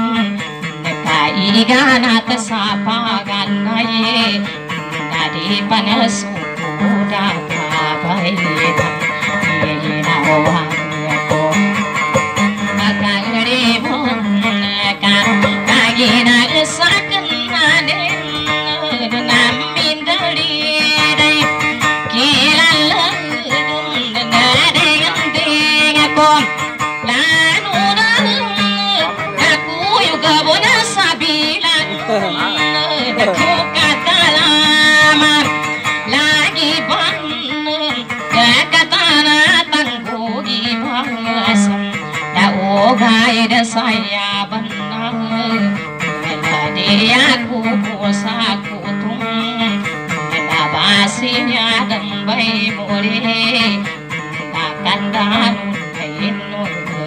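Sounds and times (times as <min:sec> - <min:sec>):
acoustic guitar: 0:00.0 - 0:57.0
woman singing folk song: 0:00.0 - 0:57.0.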